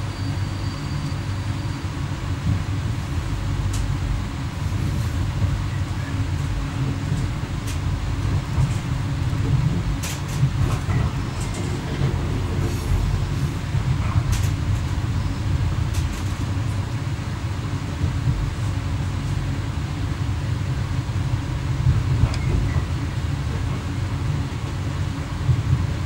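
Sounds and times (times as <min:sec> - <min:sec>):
train running low rumble: 0:00.0 - 0:26.0.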